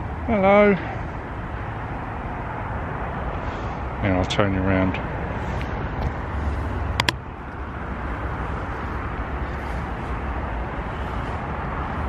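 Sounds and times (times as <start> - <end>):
motorway traffic rumble: 0.0 - 12.0.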